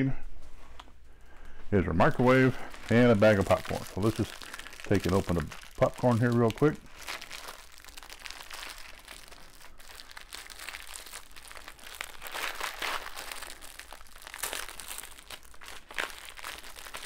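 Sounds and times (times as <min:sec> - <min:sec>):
plastic wrap crinkling: 0:00.6 - 0:17.0.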